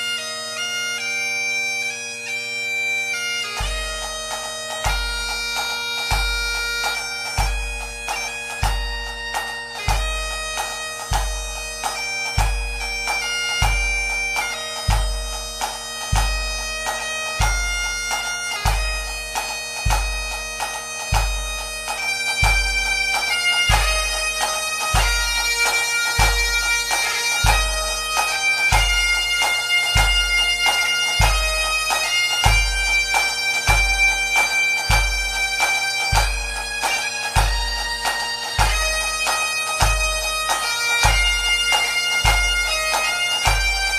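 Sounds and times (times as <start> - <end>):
bagpipe melody over drones: 0.0 - 43.9.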